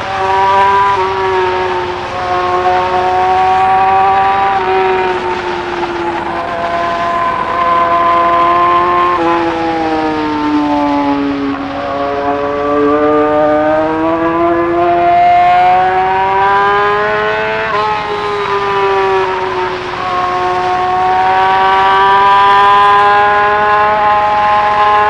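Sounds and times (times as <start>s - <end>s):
motorcycle engine revving high: 0.0s - 25.0s.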